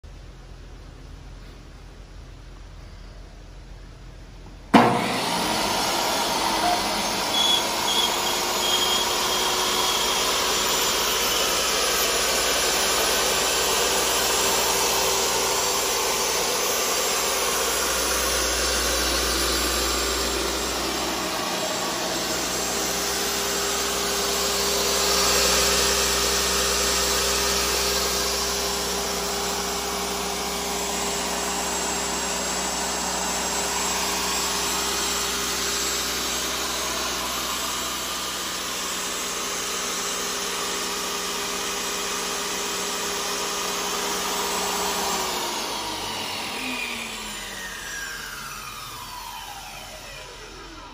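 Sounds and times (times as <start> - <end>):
saw blade spinning down: 4.7 - 50.9
table saw blade whining: 4.7 - 50.9.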